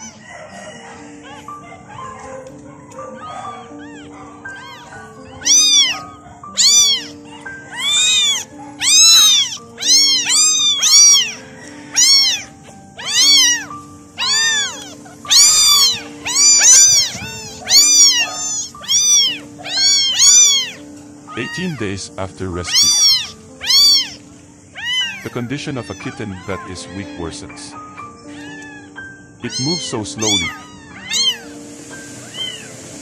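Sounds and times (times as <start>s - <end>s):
kittens meowing: 0.0s - 32.9s
soft background music: 0.0s - 33.0s.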